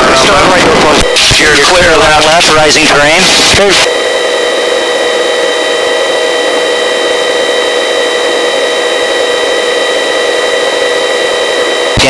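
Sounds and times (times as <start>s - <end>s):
helicopter engine and rotor drone: 0.0s - 12.0s
high whine: 0.0s - 12.0s.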